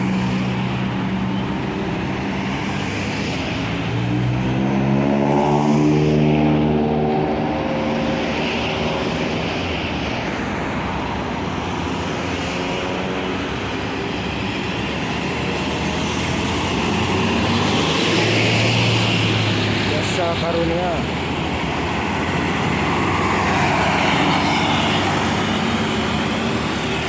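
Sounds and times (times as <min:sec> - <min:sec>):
bus diesel engine passing: 0:00.0 - 0:27.0
road and traffic noise: 0:00.0 - 0:27.0.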